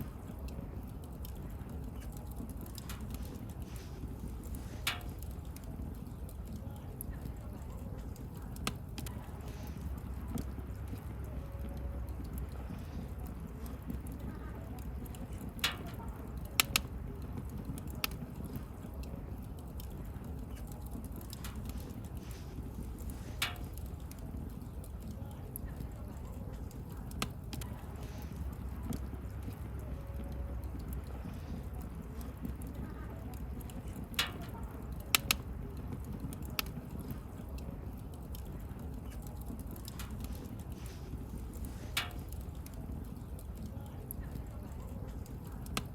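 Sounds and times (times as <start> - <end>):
bonfire crackling: 0.0 - 45.9
fire popping: 0.0 - 45.9.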